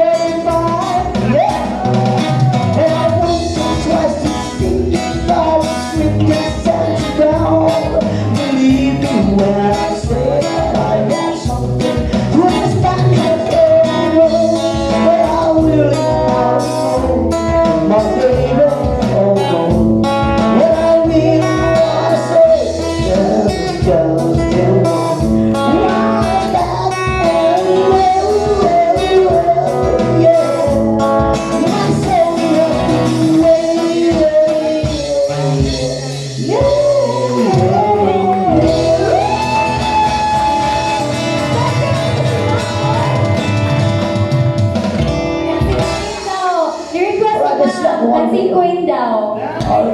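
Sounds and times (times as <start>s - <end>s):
person singing: 0.0s - 43.5s, 49.3s - 49.9s
live band playing: 0.0s - 49.9s.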